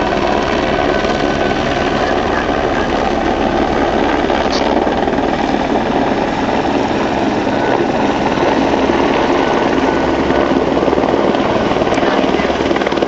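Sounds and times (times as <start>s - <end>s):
helicopter rotor chop: 0.0s - 13.0s.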